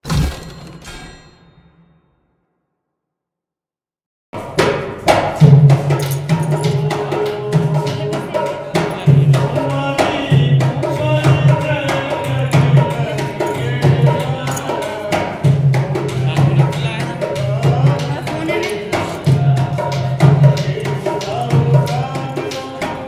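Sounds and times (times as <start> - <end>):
hand drum beating rhythm: 4.4 - 23.0.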